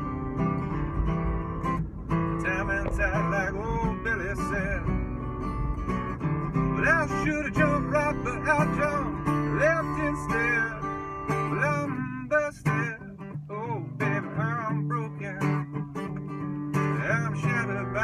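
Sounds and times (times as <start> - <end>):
acoustic guitar strummed and picked: 0.0 - 18.0
man singing blues: 2.1 - 5.6, 6.2 - 18.0.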